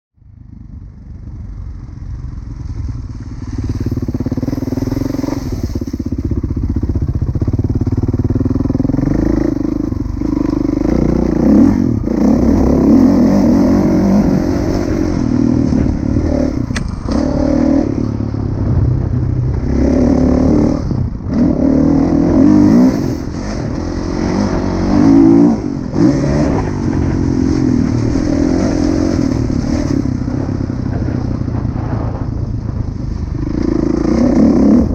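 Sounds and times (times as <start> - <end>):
motocross engine revving: 3.4 - 32.2, 33.3 - 34.9.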